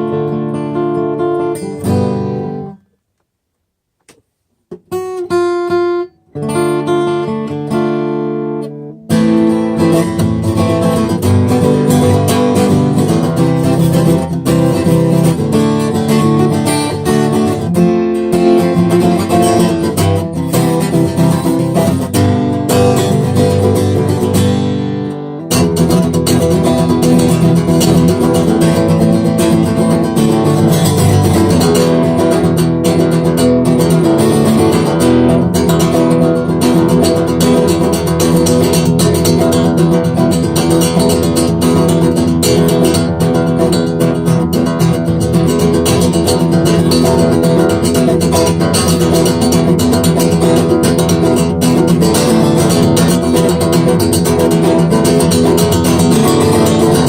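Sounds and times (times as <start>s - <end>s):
acoustic guitar playing: 0.0s - 3.1s, 4.0s - 57.0s.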